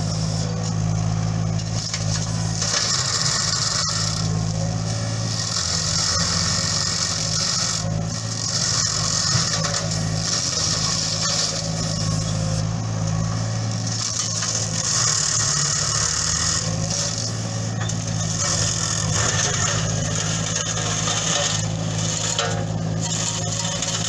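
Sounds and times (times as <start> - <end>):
excavator diesel engine: 0.0 - 24.0
flail mulcher shredding hiss: 0.0 - 24.0.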